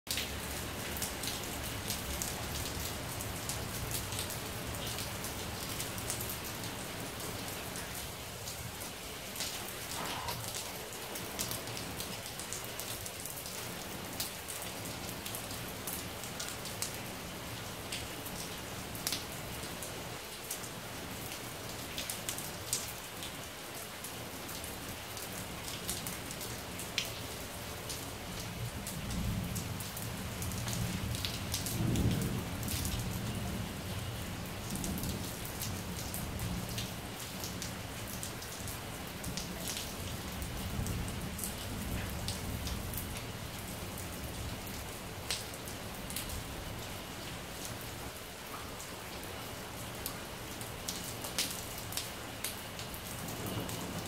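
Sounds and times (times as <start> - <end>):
rain on a tiled roof: 0.0 - 54.0.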